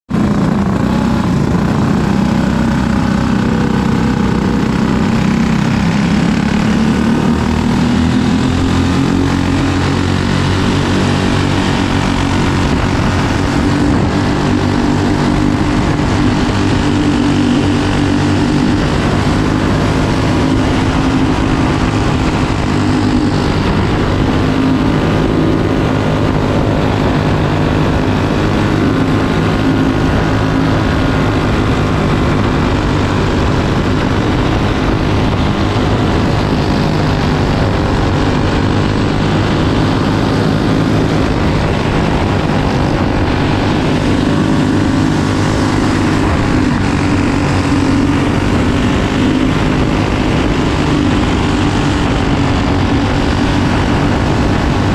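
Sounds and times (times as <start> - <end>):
kart engine running hard: 0.0 - 54.9
other kart engines nearby: 0.0 - 54.9.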